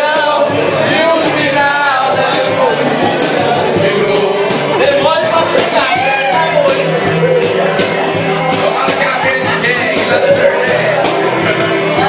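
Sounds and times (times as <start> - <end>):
country-style song with vocals: 0.0 - 12.0.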